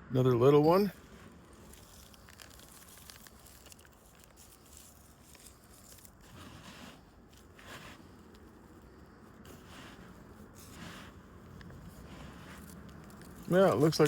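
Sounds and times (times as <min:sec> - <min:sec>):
hands sifting through soil: 0:00.3 - 0:14.0.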